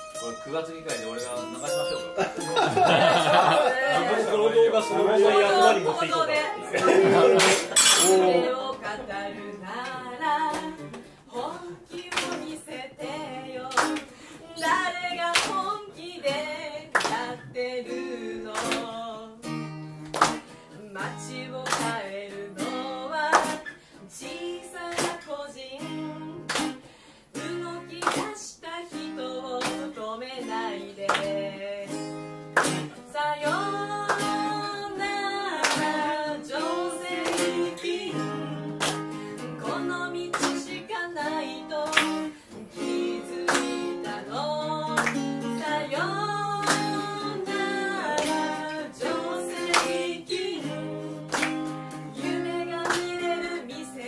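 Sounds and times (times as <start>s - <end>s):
strummed acoustic guitar: 0.0s - 54.0s
woman singing: 3.0s - 19.7s, 20.7s - 32.3s, 33.0s - 54.0s.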